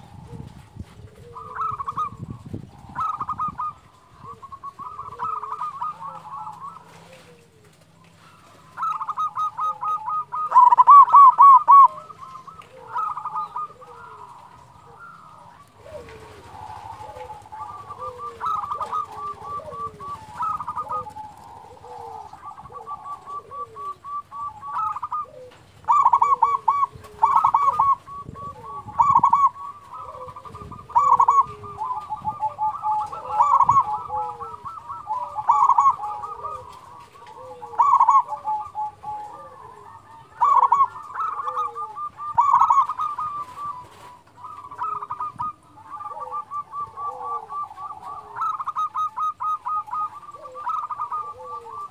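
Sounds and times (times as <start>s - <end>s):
dove cooing in staccato phrases: 0.0s - 51.9s
faint continuous cooing: 0.0s - 51.9s.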